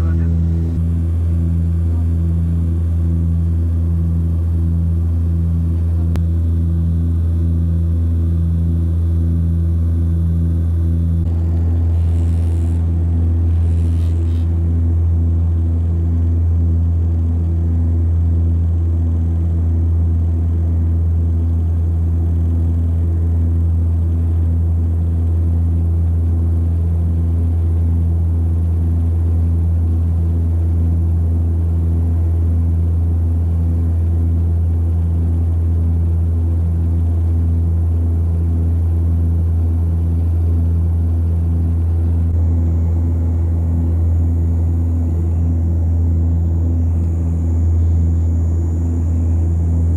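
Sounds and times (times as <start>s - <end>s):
faint high whine: 0.0s - 49.9s
turboprop cabin drone: 0.0s - 49.9s.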